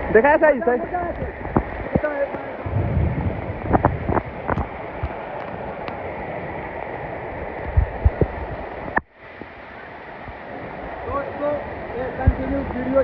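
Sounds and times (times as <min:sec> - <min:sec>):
steady rain: 0:00.0 - 0:13.0
wind on microphone: 0:00.0 - 0:13.0.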